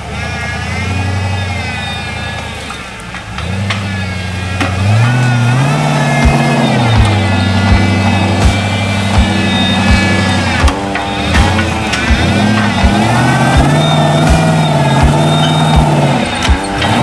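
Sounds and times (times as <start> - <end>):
engine revving under load: 0.0 - 17.0.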